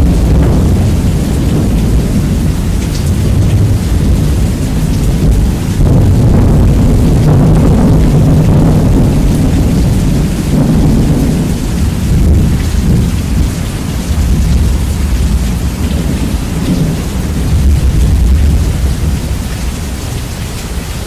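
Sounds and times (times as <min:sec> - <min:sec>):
distorted rolling thunder: 0:00.0 - 0:21.0
rain hiss: 0:00.0 - 0:21.0.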